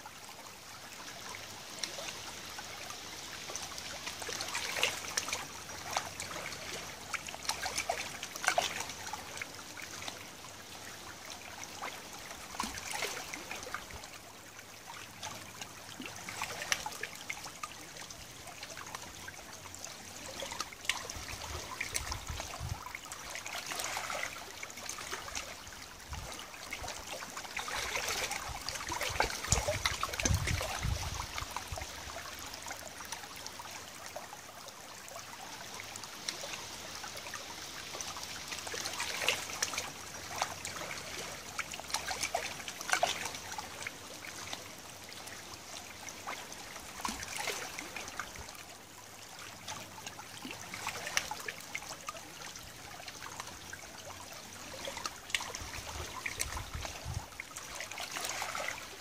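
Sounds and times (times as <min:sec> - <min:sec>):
water lapping over stones: 0:00.2 - 0:59.0.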